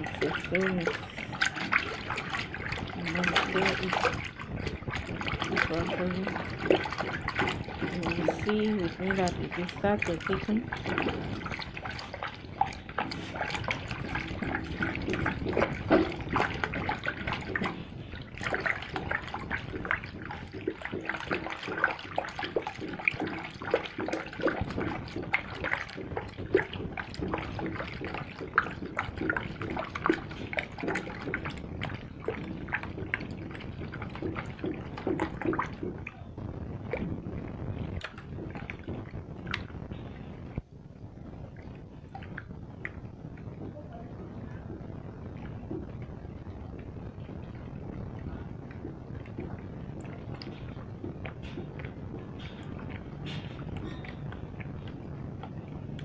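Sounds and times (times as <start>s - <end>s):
liquid being stirred by hand: 0.0s - 56.0s.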